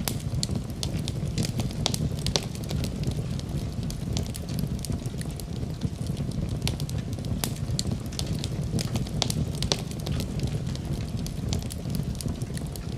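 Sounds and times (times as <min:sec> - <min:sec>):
fire crackling: 0:00.0 - 0:12.9
fire rumbling: 0:00.0 - 0:12.9.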